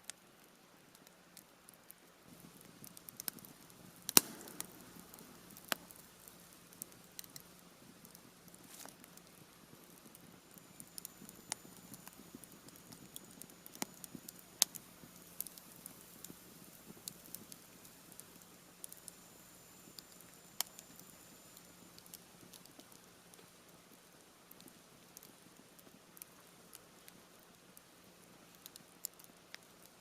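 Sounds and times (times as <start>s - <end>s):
campfire crackling and popping: 0.1s - 30.0s.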